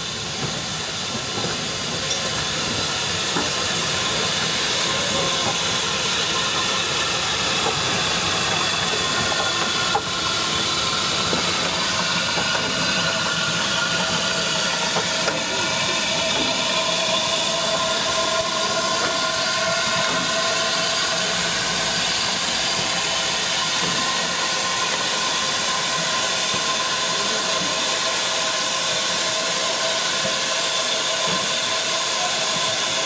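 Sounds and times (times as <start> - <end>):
hiss of escaping steam: 0.0 - 33.0
steam locomotive moving slowly: 0.0 - 33.0.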